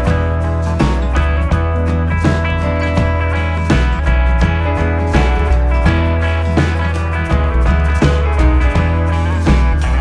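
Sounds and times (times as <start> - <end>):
music with beat and plucked guitar: 0.0 - 10.0.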